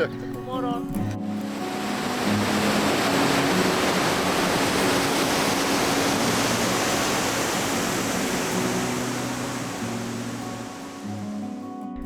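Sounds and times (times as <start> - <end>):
mountain stream rushing: 0.4 - 11.6.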